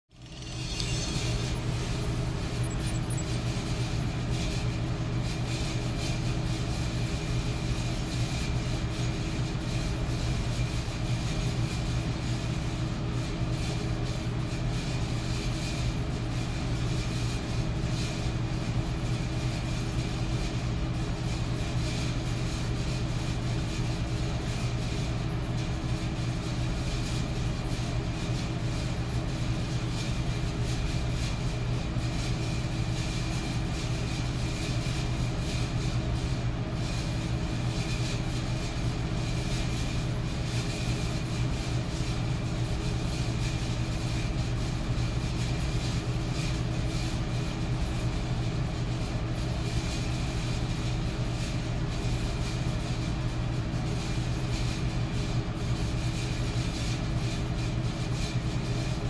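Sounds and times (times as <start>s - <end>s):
electric fan running: 0.1s - 59.0s.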